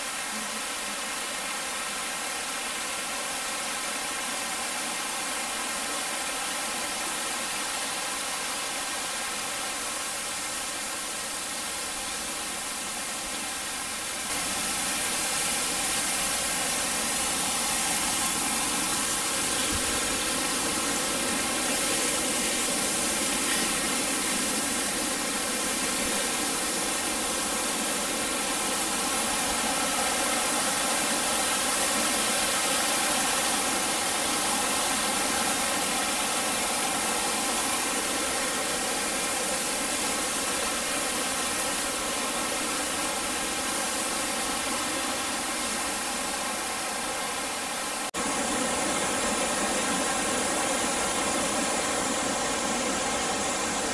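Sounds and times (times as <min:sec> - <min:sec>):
stream rushing over rocks: 0:00.0 - 0:53.9.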